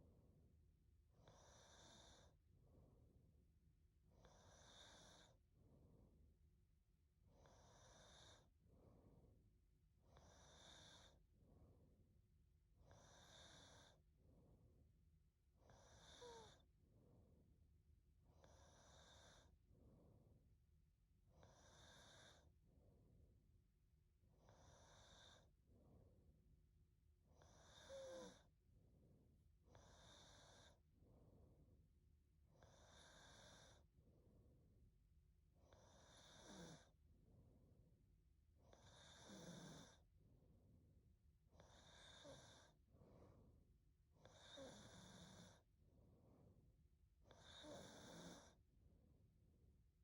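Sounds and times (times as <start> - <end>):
woman breathing with soft snoring: 0.0 - 49.4.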